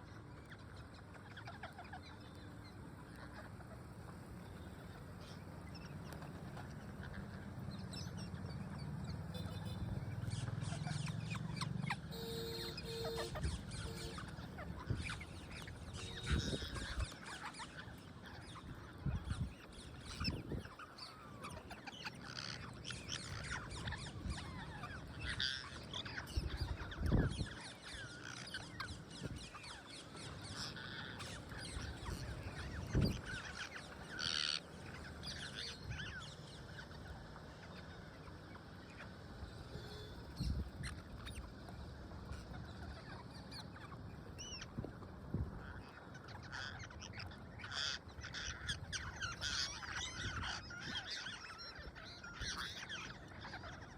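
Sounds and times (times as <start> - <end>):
parrots squawking and chirping: 0.1 - 53.9.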